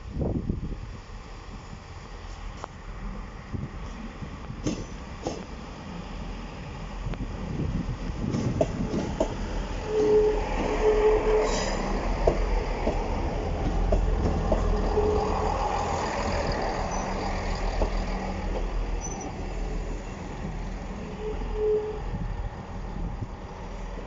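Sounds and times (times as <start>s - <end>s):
diesel engines rumbling: 0.1s - 24.0s.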